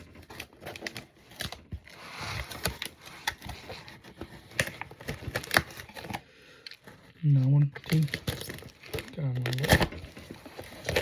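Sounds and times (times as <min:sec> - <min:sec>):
packaging clicks and crinkles: 0:00.0 - 0:11.0
packaging rustle: 0:00.0 - 0:11.0.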